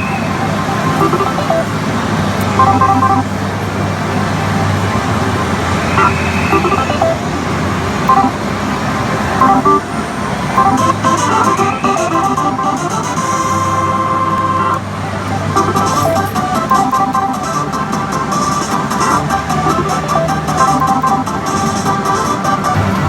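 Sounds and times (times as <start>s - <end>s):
electronic beep patterns: 0.0s - 3.4s, 4.4s - 23.0s
slot machines running: 0.0s - 23.0s.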